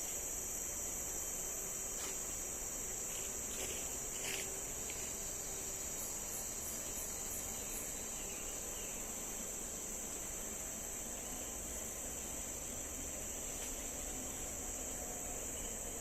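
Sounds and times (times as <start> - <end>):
shrill insect drone: 0.0 - 16.0.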